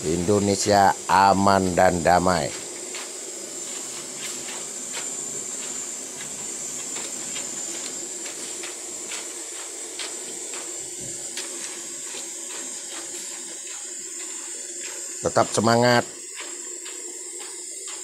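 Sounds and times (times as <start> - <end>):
oil sizzling with pops: 2.4 - 18.0.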